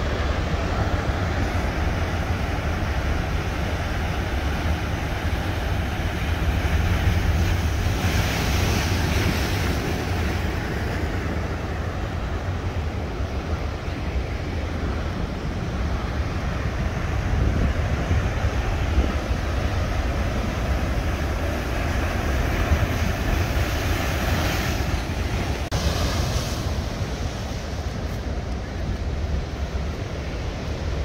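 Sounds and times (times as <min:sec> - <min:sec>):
surf breaking over rocks: 0:00.0 - 0:13.0, 0:17.2 - 0:30.0
wind buffeting microphone: 0:00.0 - 0:31.0.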